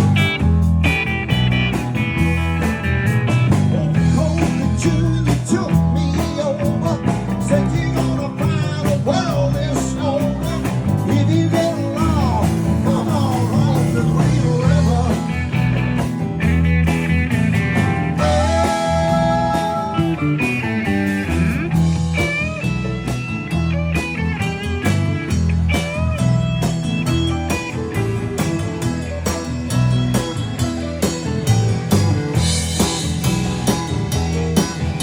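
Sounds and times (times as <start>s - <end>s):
electric guitar bending notes: 0.0s - 35.0s
live blues-rock band: 0.0s - 35.0s.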